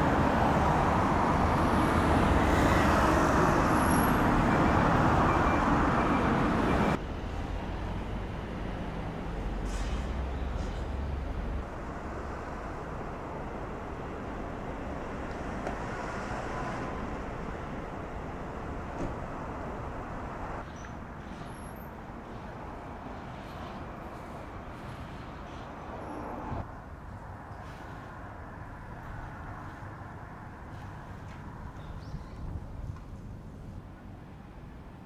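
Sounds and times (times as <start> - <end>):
distant traffic hum: 0.0 - 35.0.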